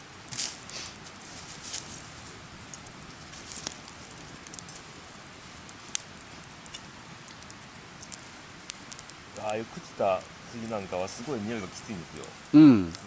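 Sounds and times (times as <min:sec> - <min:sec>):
campfire crackling and popping: 0:00.0 - 0:13.0
soft fire hiss: 0:00.0 - 0:13.0.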